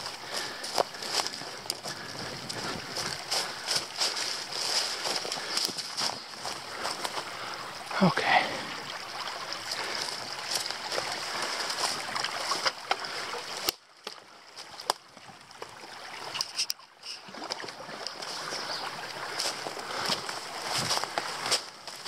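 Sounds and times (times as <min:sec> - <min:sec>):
creek water rushing: 0:00.0 - 0:22.0
footsteps along a bank: 0:00.0 - 0:22.0.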